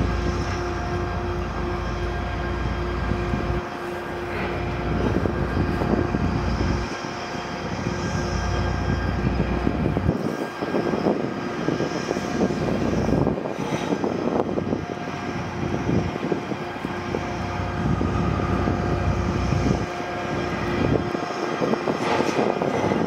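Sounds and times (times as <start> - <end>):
diesel engine drone: 0.0 - 23.0
train wheels clattering on rails: 0.0 - 23.0.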